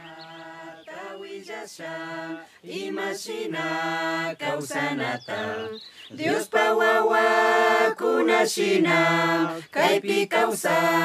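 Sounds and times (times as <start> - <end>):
group singing a hymn: 0.0 - 11.0.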